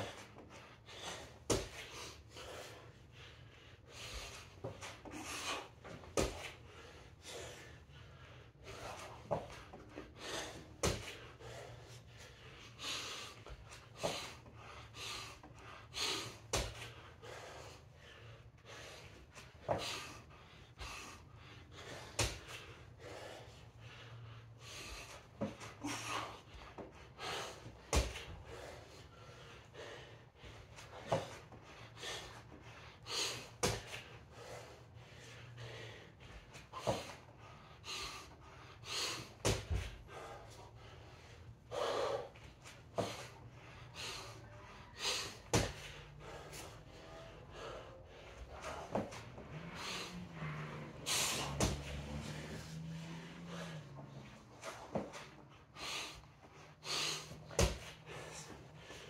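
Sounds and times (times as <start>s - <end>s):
man breathing hard: 0.0s - 59.0s.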